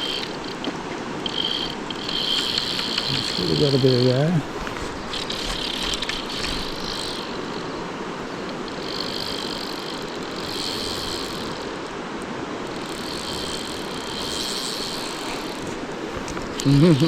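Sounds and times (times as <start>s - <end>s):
high buzzing: 0.0s - 17.0s
river water rushing: 0.0s - 17.0s.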